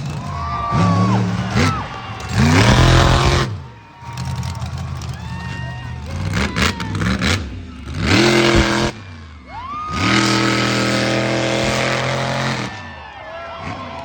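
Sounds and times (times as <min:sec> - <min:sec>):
truck engine revving: 0:00.0 - 0:05.3, 0:05.9 - 0:12.9.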